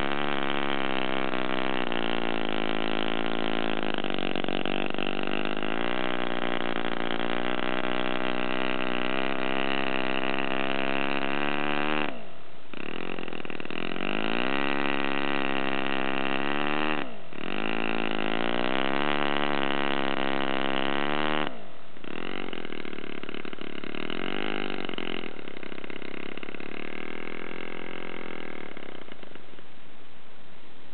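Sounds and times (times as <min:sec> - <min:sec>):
model engine running fast: 0:00.0 - 0:29.4.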